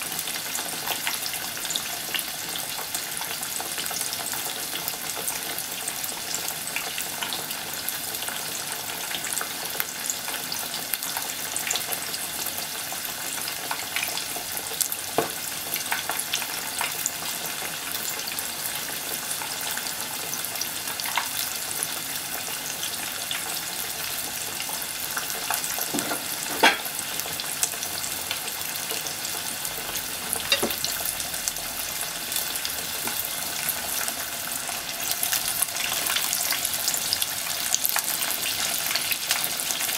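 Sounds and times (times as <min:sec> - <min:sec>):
oil sizzling and popping: 0:00.0 - 0:39.9.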